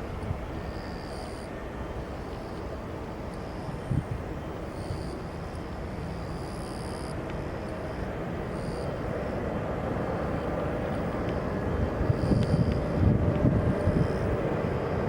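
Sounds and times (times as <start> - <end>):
faint steady whine: 0.0 - 15.0
jet airliner engine rumble: 0.0 - 15.0.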